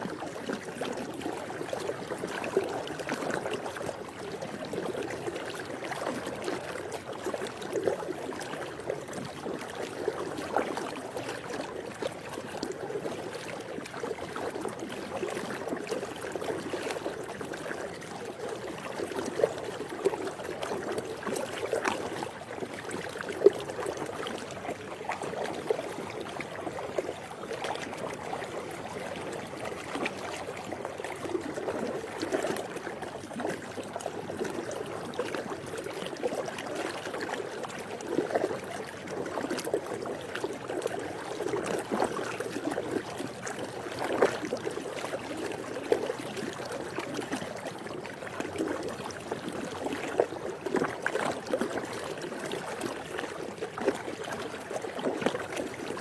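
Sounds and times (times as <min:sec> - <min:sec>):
pool water splashing: 0:00.0 - 0:56.0.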